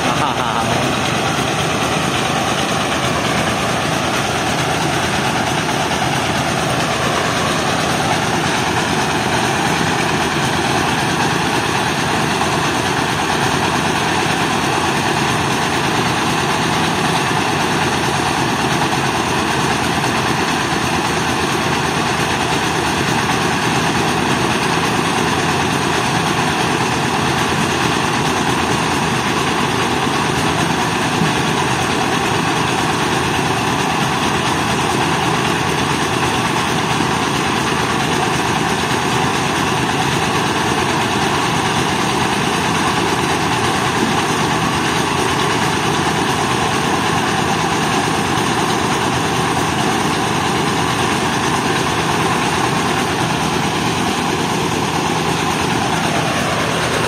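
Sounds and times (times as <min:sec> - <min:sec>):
rice milling machine running: 0:00.0 - 0:57.0.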